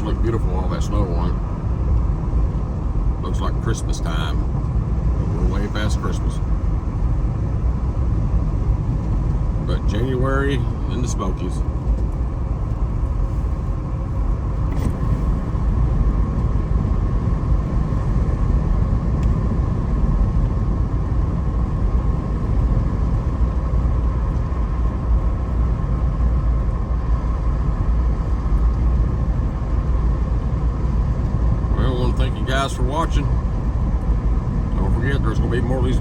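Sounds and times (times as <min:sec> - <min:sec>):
road and engine rumble: 0:00.0 - 0:36.0.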